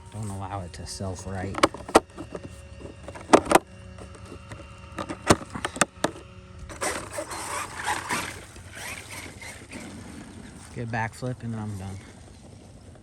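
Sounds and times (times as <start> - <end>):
electric motor and tyres whirring: 0.0 - 13.0.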